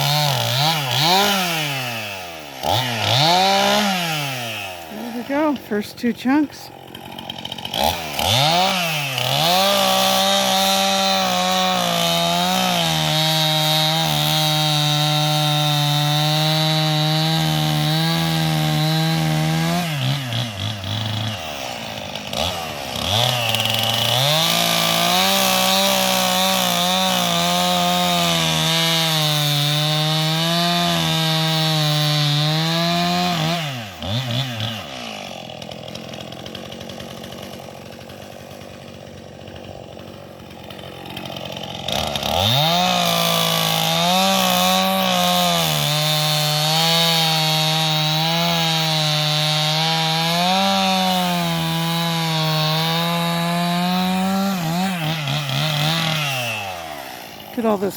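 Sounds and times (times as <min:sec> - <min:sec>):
chainsaw cutting at full throttle: 0:00.0 - 0:57.9
chainsaw idling: 0:00.0 - 0:57.9.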